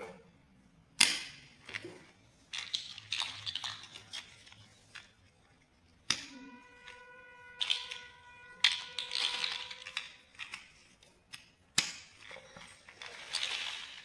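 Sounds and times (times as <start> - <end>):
plastic blocks clicking: 1.0 - 5.3, 6.0 - 7.0, 7.6 - 14.0.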